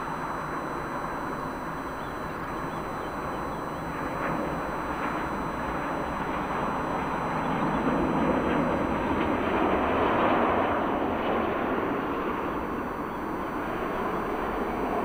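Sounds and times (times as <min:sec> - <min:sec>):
jet airliner engine rumble: 0:00.0 - 0:15.0.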